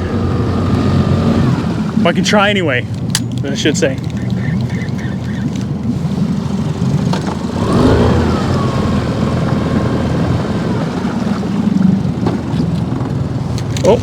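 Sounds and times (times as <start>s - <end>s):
motorboat engine passing: 0.0s - 14.0s.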